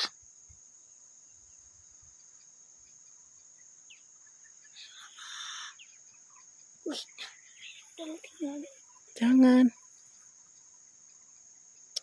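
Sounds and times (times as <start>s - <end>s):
high-pitched insect drone: 1.2s - 12.0s.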